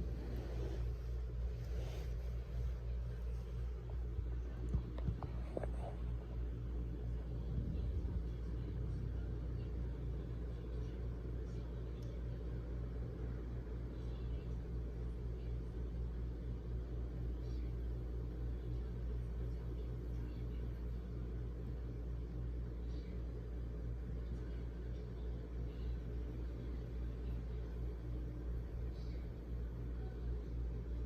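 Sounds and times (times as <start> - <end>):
low rumble with hum: 0.0 - 31.0.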